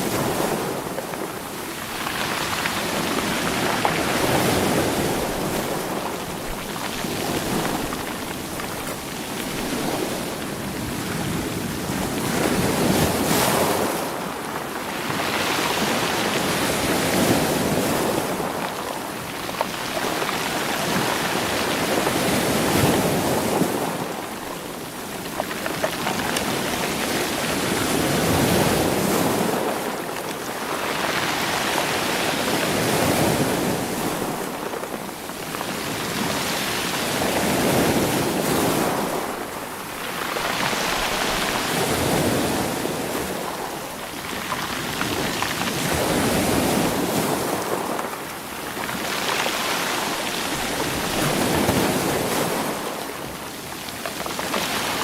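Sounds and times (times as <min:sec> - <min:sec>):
rocks rolling in surf: 0:00.0 - 0:55.0
waves washing onto stony shore: 0:00.0 - 0:55.0.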